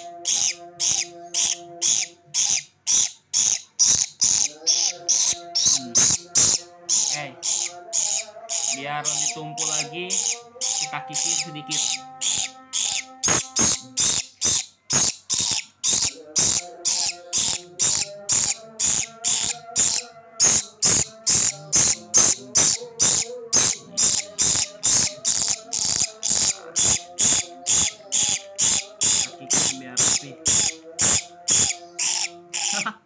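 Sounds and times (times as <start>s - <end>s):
metal nail file rasping on beak: 0.0s - 32.9s.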